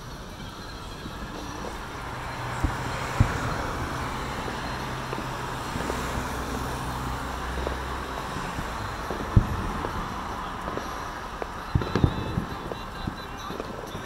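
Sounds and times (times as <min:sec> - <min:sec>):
car engine running: 0:00.0 - 0:14.0
distant fireworks booming: 0:00.0 - 0:14.0
road traffic hum: 0:00.0 - 0:14.0.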